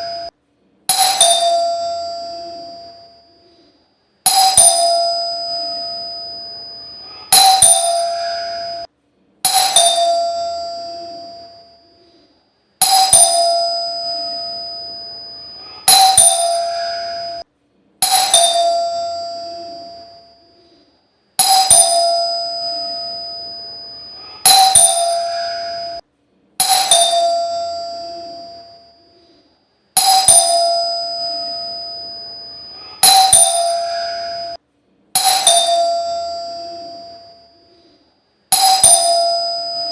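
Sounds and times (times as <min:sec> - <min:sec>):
calling bell ringing: 0:00.0 - 0:00.3, 0:00.9 - 0:17.4, 0:18.0 - 0:20.8, 0:21.4 - 0:26.0, 0:26.6 - 0:29.4, 0:30.0 - 0:34.6, 0:35.2 - 0:39.9.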